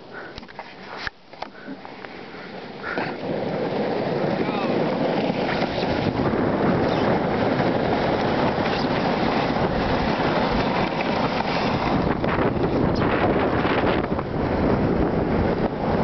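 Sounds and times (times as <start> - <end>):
sled scraping over snow: 0.5 - 16.0
wind buffeting microphone: 2.6 - 16.0.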